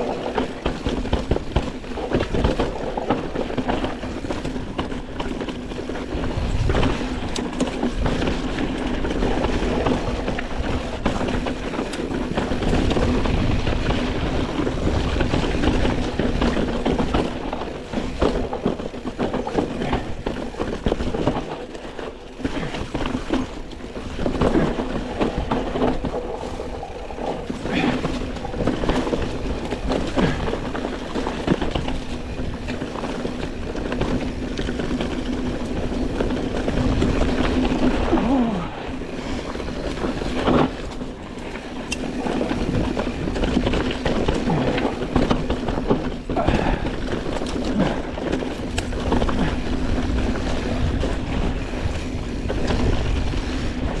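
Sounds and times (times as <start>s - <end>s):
bike chain and frame rattling: 0.0s - 54.0s
bike tyres crunching over dirt: 0.0s - 54.0s.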